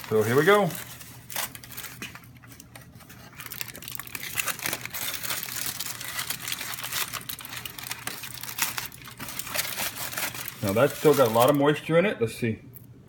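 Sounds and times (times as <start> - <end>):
aluminium foil crinkling: 0.0 - 11.8.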